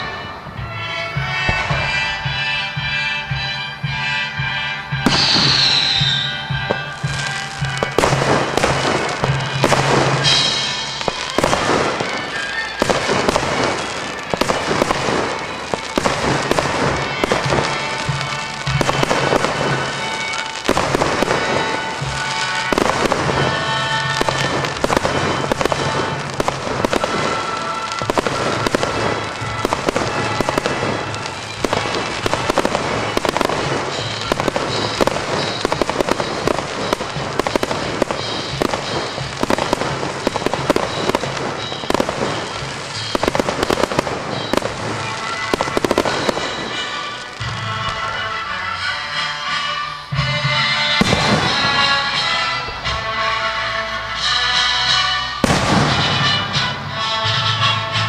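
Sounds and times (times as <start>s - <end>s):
fireworks bursting with crackle: 0.0s - 58.0s
music playing: 0.0s - 58.0s.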